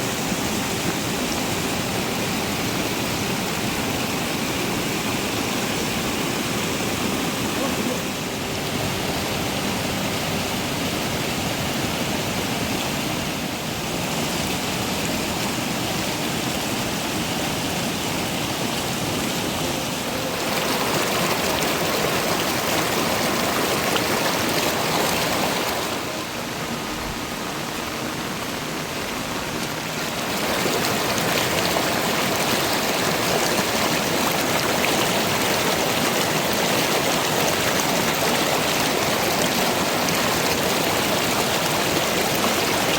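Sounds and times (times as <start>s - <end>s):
heavy rain: 0.0s - 42.9s
running water: 0.0s - 42.9s.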